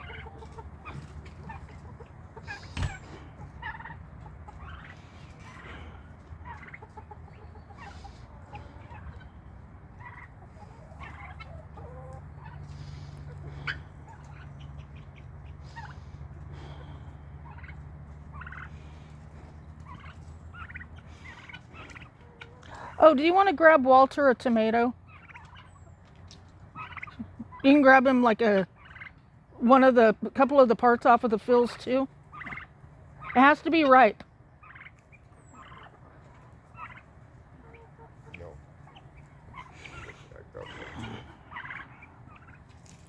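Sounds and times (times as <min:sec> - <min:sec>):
guinea fowl and chickens calling: 0:00.0 - 0:43.0
turkeys gobbling: 0:00.0 - 0:43.0.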